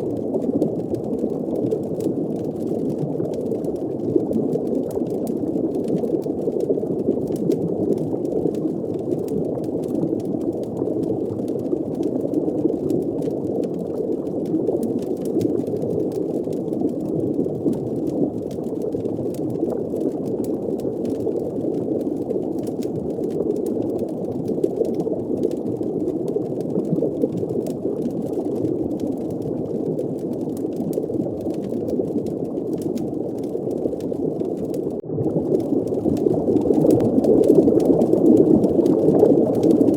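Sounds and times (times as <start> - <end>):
faint crackles: 0.0 - 39.9
underwater bubbling wash: 0.0 - 39.9.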